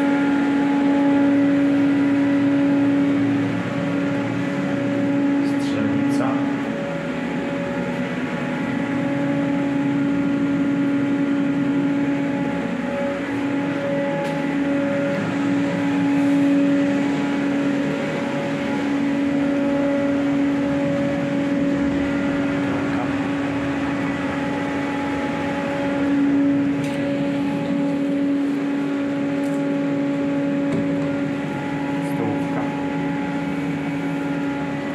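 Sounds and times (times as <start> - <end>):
machinery hum: 0.0 - 34.9.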